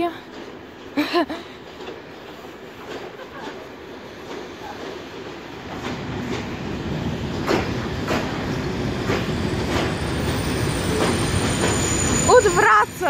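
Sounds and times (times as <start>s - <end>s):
wheels clacking over rail joints: 0.0s - 12.6s
train rumbling: 0.0s - 13.0s.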